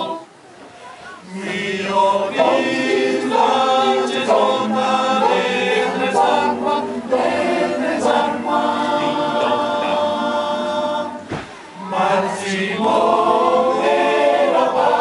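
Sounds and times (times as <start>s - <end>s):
mixed choir singing a cappella: 0.0s - 0.4s, 1.2s - 15.0s.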